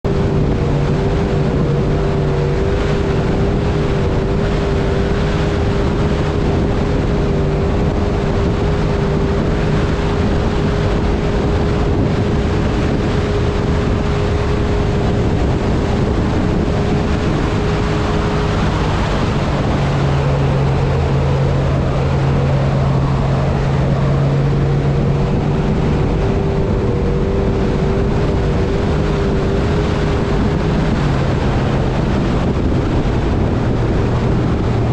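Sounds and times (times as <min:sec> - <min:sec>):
outboard motor running: 0:00.0 - 0:34.9
rushing water: 0:00.0 - 0:34.9
wind on the microphone: 0:00.0 - 0:34.9.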